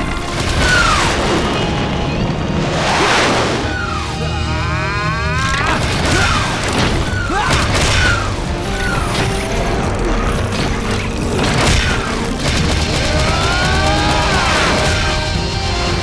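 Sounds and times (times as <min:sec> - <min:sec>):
dramatic music with booming hits: 0:00.0 - 0:16.0.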